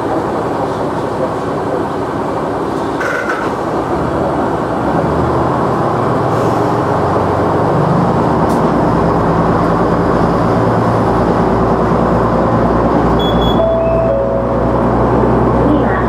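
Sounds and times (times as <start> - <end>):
railcar diesel engine powering up: 0.0 - 16.0.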